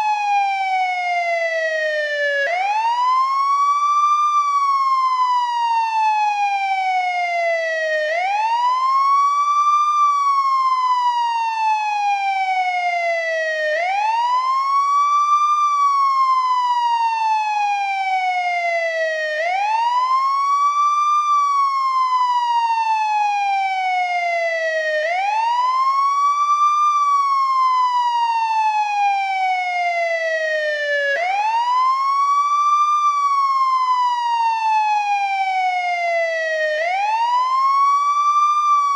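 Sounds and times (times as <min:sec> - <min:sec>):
ambulance wail siren: 0:00.0 - 0:38.9.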